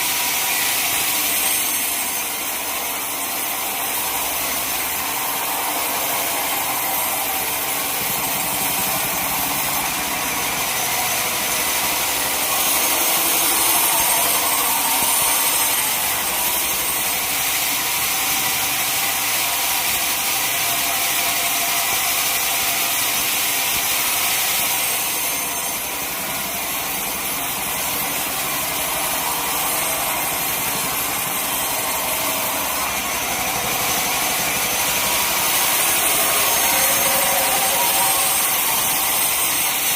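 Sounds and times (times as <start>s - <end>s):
machine whine: 0.0s - 39.9s
saw cutting through log: 0.0s - 39.9s.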